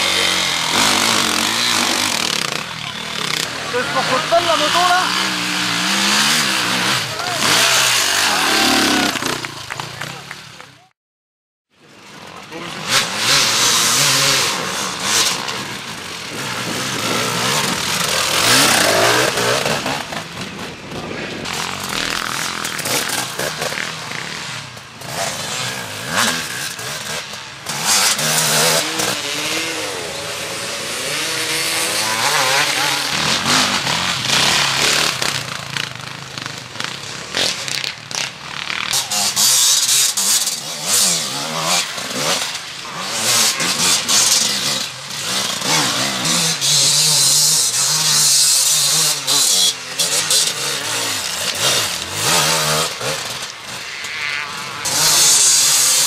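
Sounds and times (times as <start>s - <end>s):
motorcycle engines revving past: 0.0s - 10.9s, 11.8s - 56.0s.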